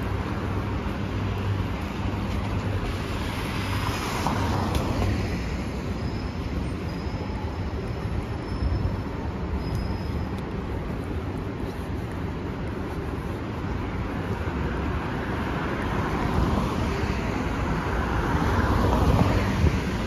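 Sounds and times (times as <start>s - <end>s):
city traffic noise: 0.0s - 20.0s.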